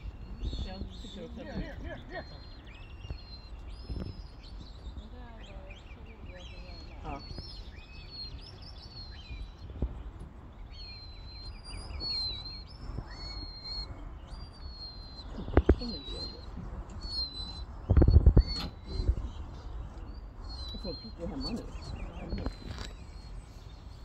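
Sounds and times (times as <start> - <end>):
thin high whistles and chirps: 0.0 - 10.0, 10.6 - 24.0
wind buffeting microphone: 0.0 - 24.0.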